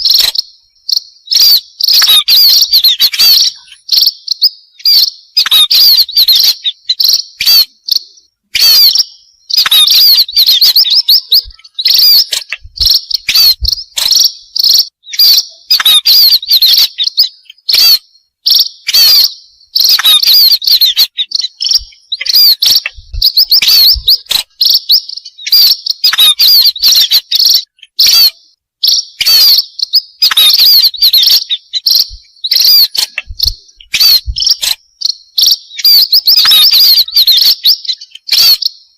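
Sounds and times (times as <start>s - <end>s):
birds chirping rapidly: 0.0s - 38.9s.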